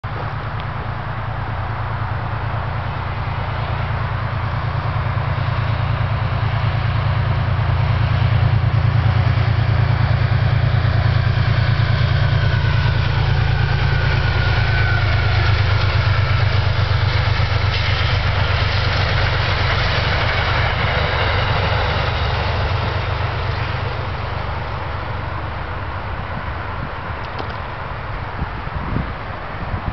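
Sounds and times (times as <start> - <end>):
diesel locomotive engine droning: 0.0 - 29.9.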